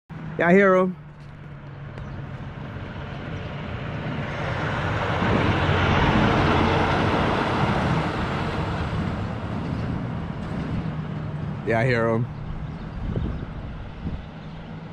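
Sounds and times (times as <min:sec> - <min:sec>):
motorcycle passing by: 0:01.0 - 0:14.9.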